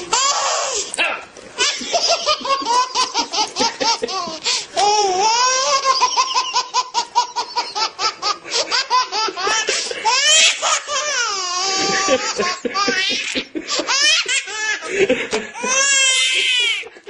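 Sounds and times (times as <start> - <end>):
baby laughing and squealing: 0.0 - 0.9, 1.6 - 14.9, 15.6 - 16.8.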